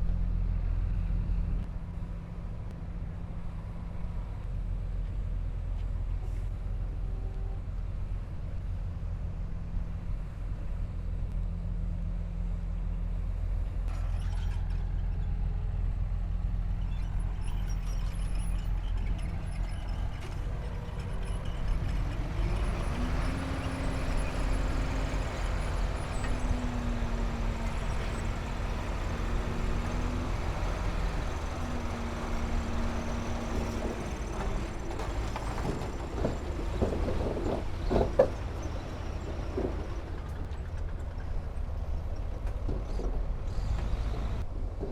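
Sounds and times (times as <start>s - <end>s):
diesel engine rumble: 0.0s - 44.9s.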